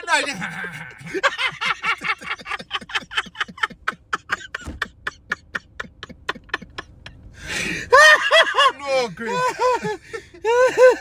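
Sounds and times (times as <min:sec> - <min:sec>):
man laughing hard: 0:00.1 - 0:11.0.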